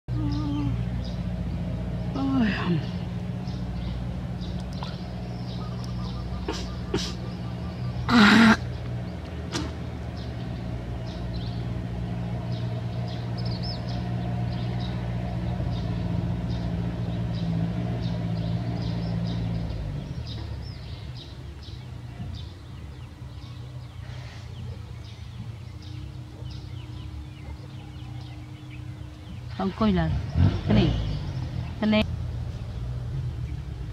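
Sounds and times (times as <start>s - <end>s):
vehicle engine humming: 0.0s - 33.9s
small birds chirping: 0.1s - 33.9s.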